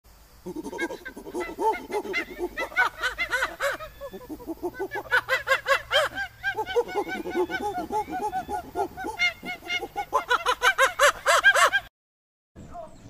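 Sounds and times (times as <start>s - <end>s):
short animal calls: 0.4s - 11.0s.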